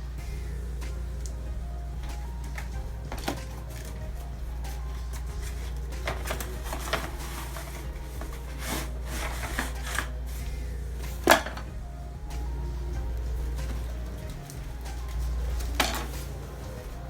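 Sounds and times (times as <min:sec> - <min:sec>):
steady low hum: 0:00.0 - 0:17.0
unboxing rustles and clicks: 0:00.0 - 0:17.0.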